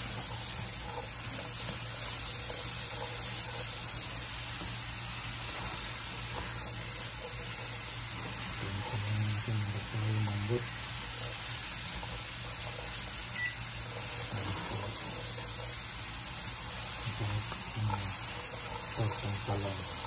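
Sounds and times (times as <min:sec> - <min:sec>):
vegetables sizzling in a frying pan: 0:00.0 - 0:20.0
wooden spatula stirring: 0:00.0 - 0:20.0.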